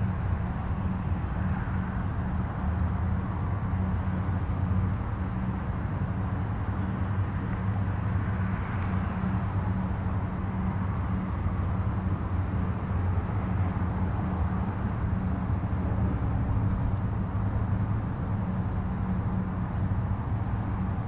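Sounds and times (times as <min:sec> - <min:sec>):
distant highway traffic rumble: 0:00.0 - 0:21.0.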